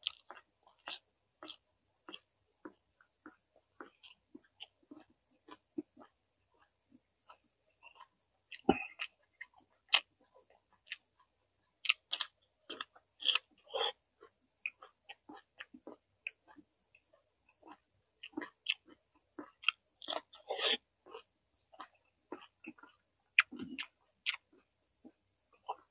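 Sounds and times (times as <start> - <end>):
chewing with mouth clicks: 0.0 - 25.9.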